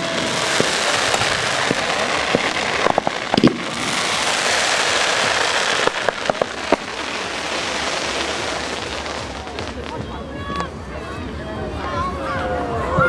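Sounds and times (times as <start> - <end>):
fireworks crackling and banging: 0.0 - 10.8.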